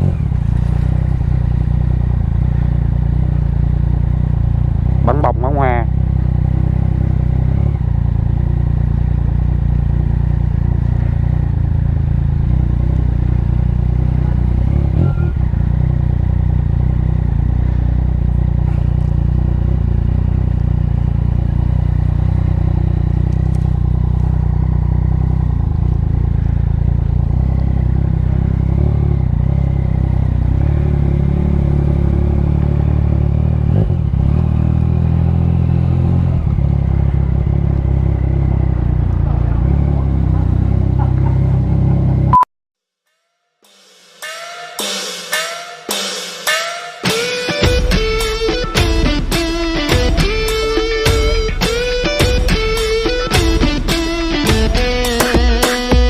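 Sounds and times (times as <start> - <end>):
motorcycle engine running: 0.0 - 42.4, 46.4 - 56.0.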